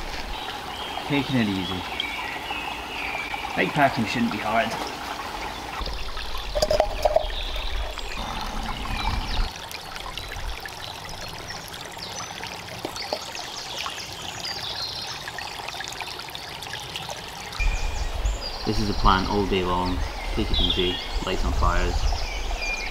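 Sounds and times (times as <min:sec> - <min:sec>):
faint birdsong: 0:00.0 - 0:16.2, 0:16.8 - 0:22.9
stream trickling: 0:00.0 - 0:22.9.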